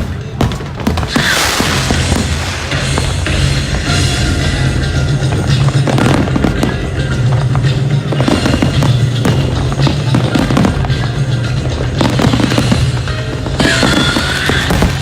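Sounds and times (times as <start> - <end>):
firecrackers cracking and banging: 0.0 - 15.0
music with low drone: 0.0 - 15.0.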